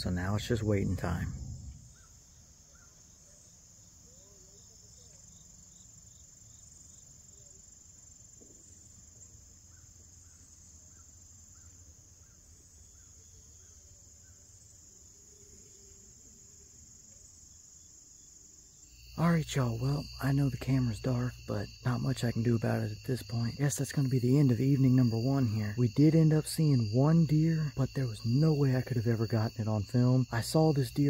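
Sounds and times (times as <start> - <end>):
crickets and insects droning: 0.0 - 31.0.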